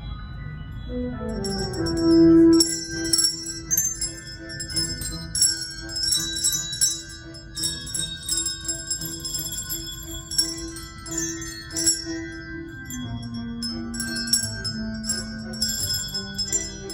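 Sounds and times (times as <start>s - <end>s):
handbell choir playing: 0.7s - 16.9s.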